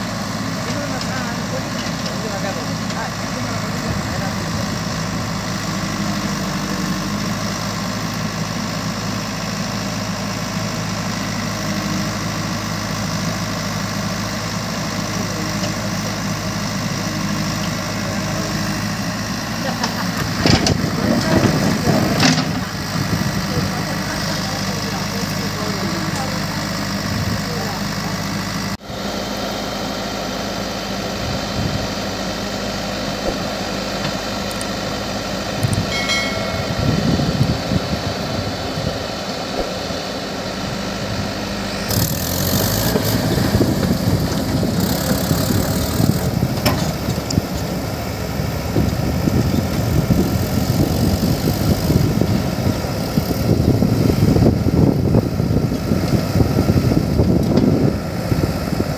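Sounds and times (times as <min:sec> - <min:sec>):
backhoe loading soil: 0:00.0 - 0:58.9
diesel engines running: 0:00.0 - 0:58.9.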